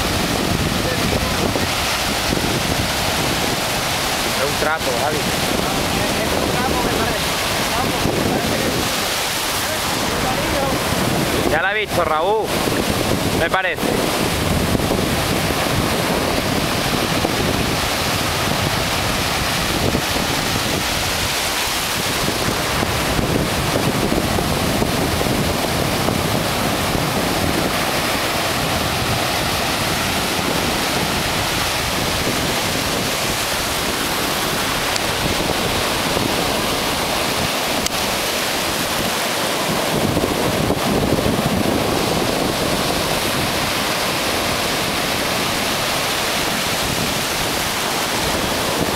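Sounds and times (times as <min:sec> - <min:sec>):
ocean surf breaking: 0:00.0 - 0:48.9
wind buffeting microphone: 0:00.0 - 0:48.9.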